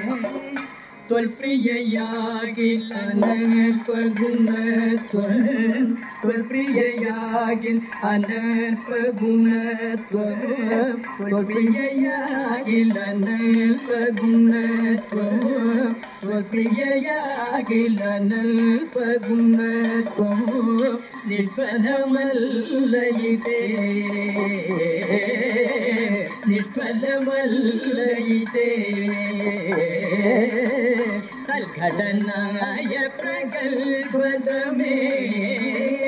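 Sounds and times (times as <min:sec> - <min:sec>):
man singing long ornamented lines: 0:00.0 - 0:36.0.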